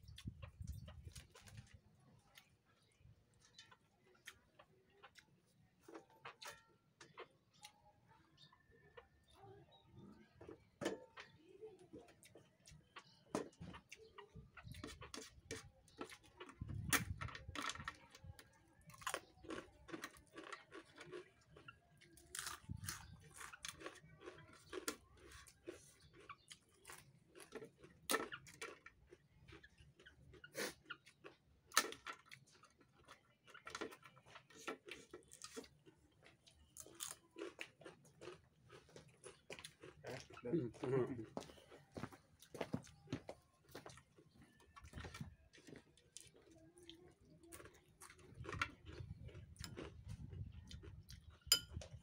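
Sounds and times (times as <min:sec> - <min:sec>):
person chewing raw vegetables: 0:00.0 - 0:07.8, 0:12.0 - 0:52.0.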